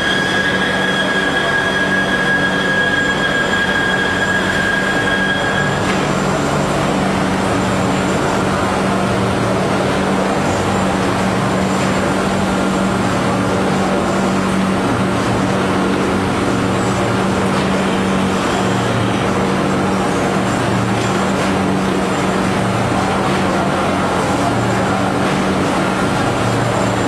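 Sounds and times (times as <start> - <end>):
production line machine noise: 0.0 - 27.0.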